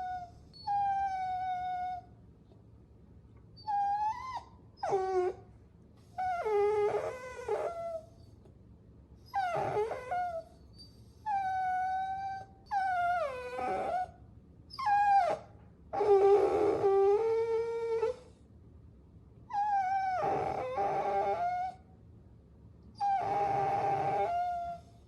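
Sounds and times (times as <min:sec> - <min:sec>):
puppy whining: 0:00.0 - 0:02.2, 0:03.5 - 0:08.5, 0:09.2 - 0:18.4, 0:19.5 - 0:21.9, 0:22.9 - 0:25.0.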